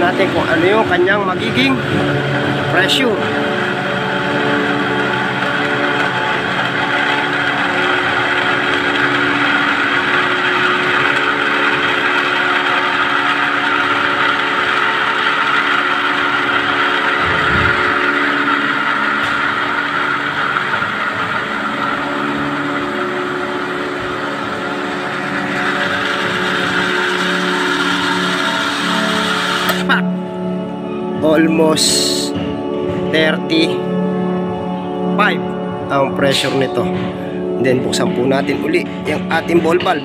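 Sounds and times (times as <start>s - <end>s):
electric motor pump running: 0.0s - 31.2s, 33.7s - 40.0s.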